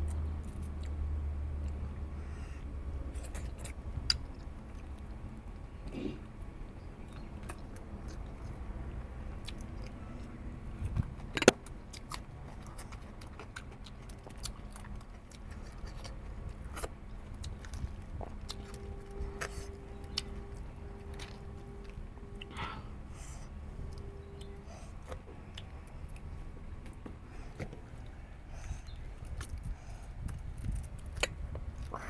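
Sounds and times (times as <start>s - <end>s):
person chewing with crunches: 0.0s - 6.4s, 7.1s - 32.0s.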